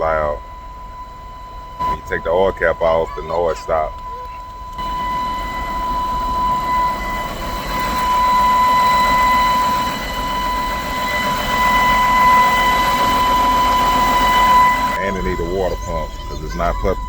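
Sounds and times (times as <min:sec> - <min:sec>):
high-pitched engine whistle: 0:00.0 - 0:17.0
car engine idling: 0:01.6 - 0:17.0.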